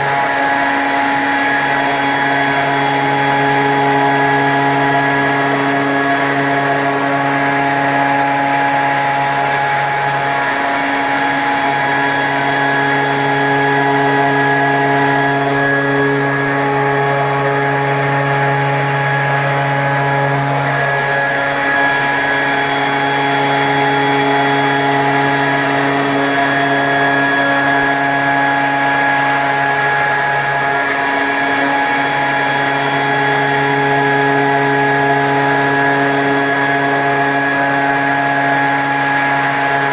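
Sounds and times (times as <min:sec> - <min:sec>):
machine spindle humming: 0:00.0 - 0:39.9.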